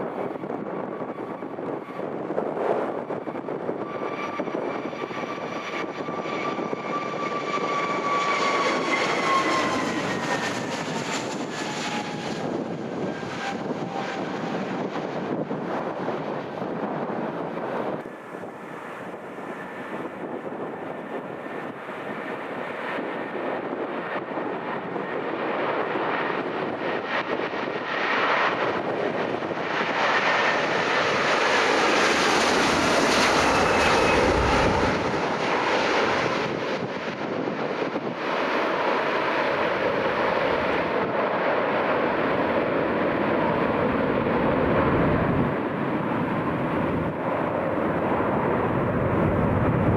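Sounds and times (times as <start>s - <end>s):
high jet whine: 0.0s - 49.9s
jet engines roaring: 0.0s - 49.9s.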